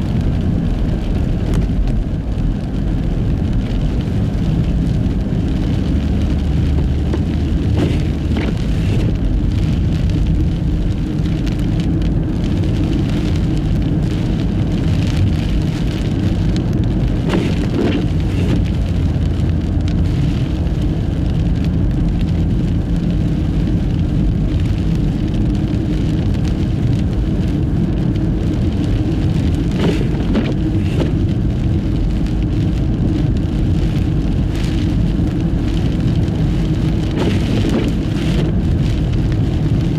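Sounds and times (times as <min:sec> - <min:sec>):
car driving on snowy road: 0:00.0 - 0:39.9
tyre and wind noise: 0:00.0 - 0:39.9.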